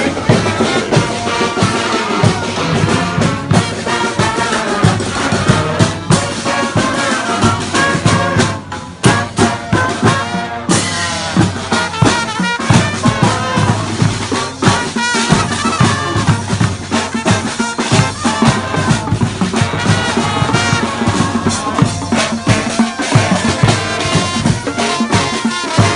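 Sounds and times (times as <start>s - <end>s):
brass band playing: 0.0s - 25.9s.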